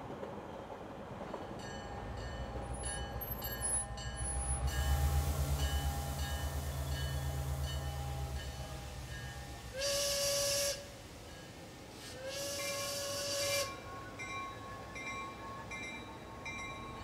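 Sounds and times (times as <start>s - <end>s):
train car rumbling: 0.0s - 17.0s.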